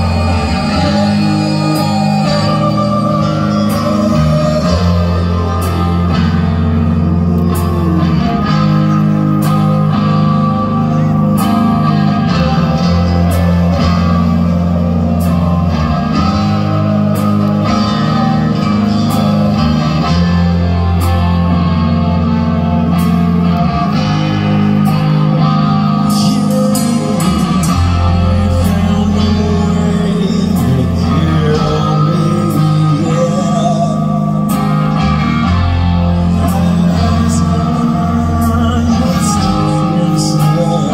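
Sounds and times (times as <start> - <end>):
amplified electric guitar: 0.0 - 40.9
sustained low notes: 0.0 - 40.9.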